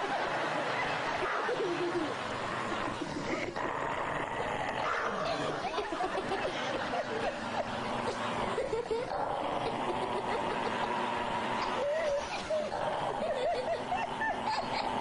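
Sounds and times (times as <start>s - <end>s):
dog growling: 1.1s - 15.0s.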